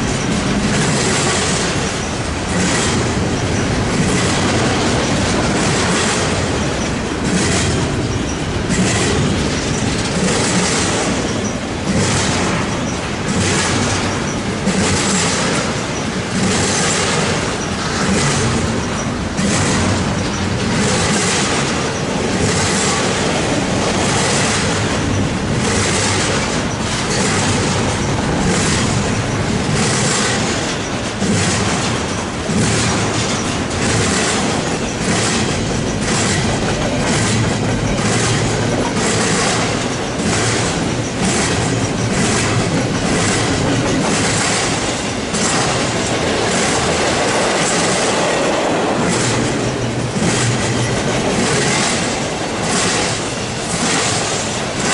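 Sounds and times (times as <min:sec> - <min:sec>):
freight train rumbling: 0:00.0 - 0:54.9
train wheels clacking over joints: 0:00.0 - 0:54.9.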